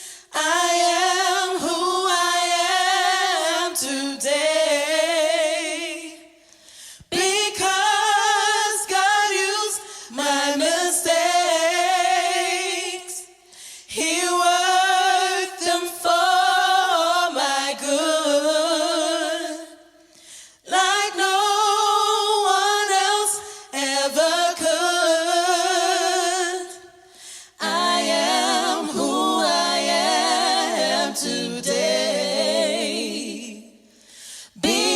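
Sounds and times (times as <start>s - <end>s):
choir singing a cappella: 0.0s - 6.4s, 7.1s - 20.0s, 20.6s - 34.9s.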